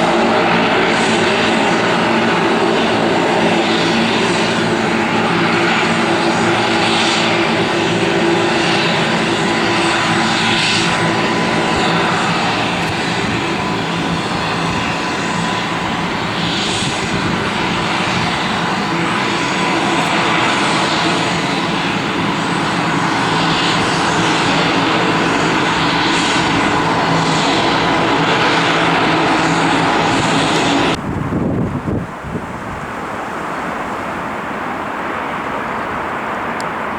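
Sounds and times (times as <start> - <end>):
aircraft engines whining: 0.0 - 36.9.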